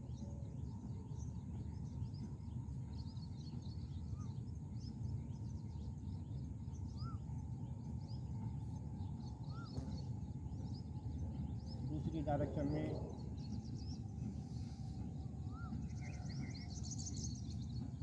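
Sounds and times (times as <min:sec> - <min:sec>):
birds chirping: 0:00.0 - 0:18.0
low outdoor rumble: 0:00.0 - 0:18.0
whistled bird calls: 0:00.0 - 0:18.0.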